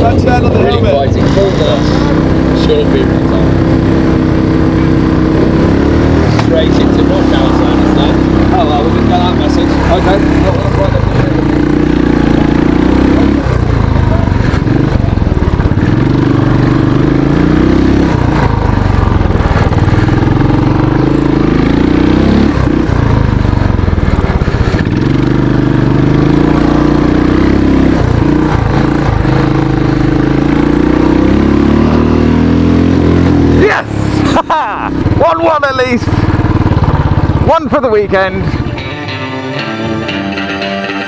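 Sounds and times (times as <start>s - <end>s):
motorcycle engine revving hard: 0.0s - 40.2s.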